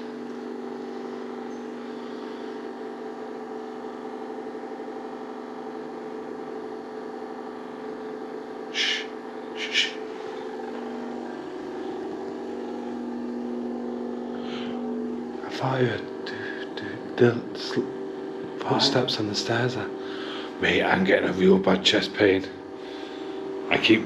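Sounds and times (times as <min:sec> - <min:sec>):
droning hum: 0:00.0 - 0:24.0.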